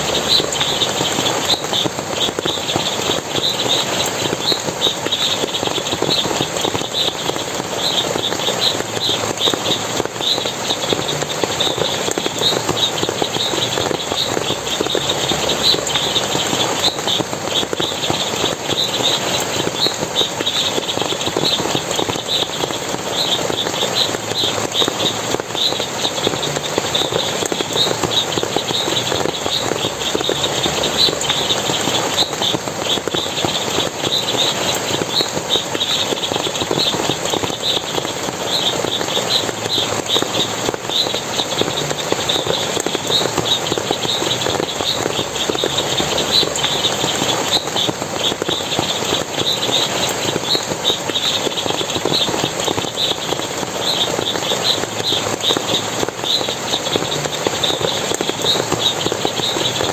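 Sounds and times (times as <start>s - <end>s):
rapid high chirping: 0.0s - 59.9s
stream water running: 0.0s - 59.9s.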